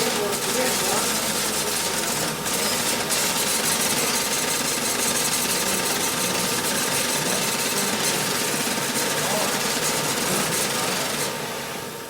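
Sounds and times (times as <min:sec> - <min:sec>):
printer mechanical rattle: 0:00.0 - 0:11.8.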